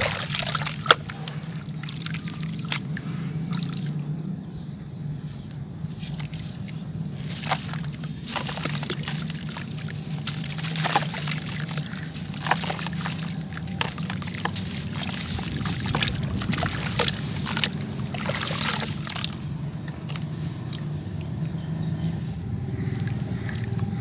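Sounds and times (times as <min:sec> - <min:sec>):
hands crumbling wet sand chunks: 0:00.0 - 0:04.1, 0:05.2 - 0:24.0
low hum: 0:00.0 - 0:24.0
water sloshing and splashing: 0:00.0 - 0:24.0.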